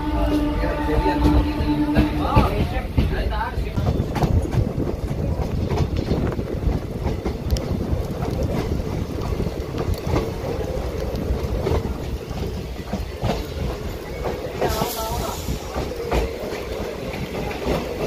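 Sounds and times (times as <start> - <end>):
train coaches rumbling: 0.0 - 18.0
wind buffeting microphone: 0.0 - 18.0.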